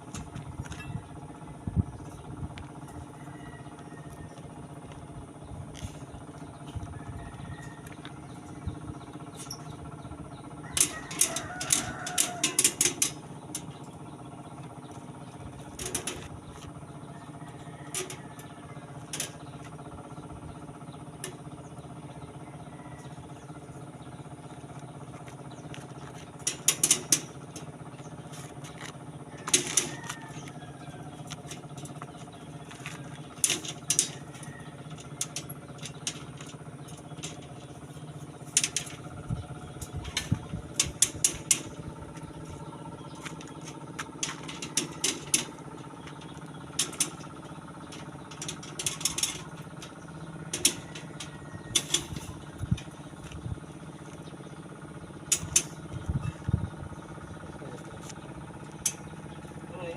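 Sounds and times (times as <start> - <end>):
steady engine hum: 0.0 - 59.9.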